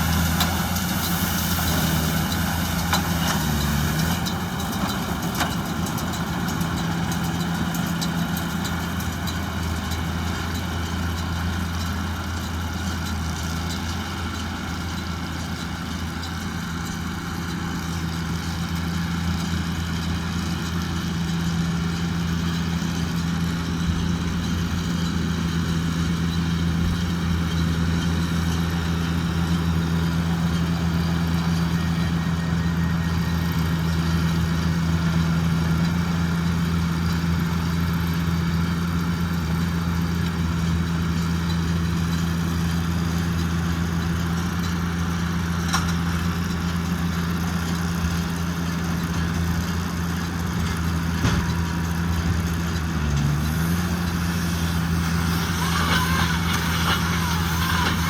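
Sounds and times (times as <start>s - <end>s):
tractor engine humming: 0.0s - 58.0s.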